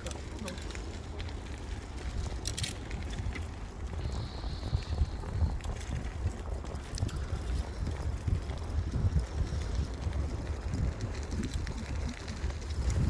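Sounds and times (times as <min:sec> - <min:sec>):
bicycle clicks and rattles: 0:00.0 - 0:13.0
wind rumbling on microphone: 0:00.0 - 0:13.0.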